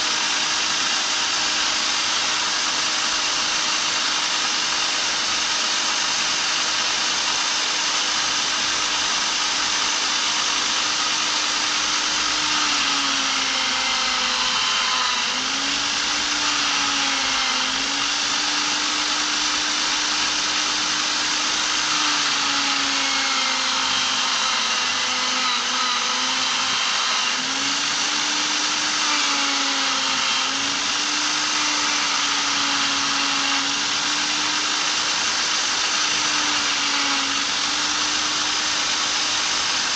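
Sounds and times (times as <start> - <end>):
electric drill motor hum: 0.0 - 39.9.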